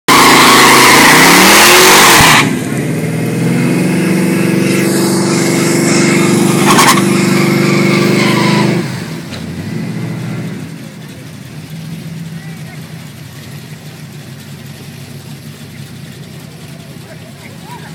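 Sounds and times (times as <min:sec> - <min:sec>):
truck engine at full throttle: 0:00.0 - 0:17.9.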